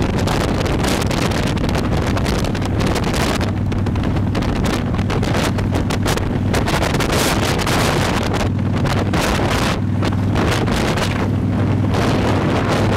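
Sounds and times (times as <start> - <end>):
motorcycle engine drone: 0.0 - 12.9
wind rushing over microphone: 0.0 - 12.9.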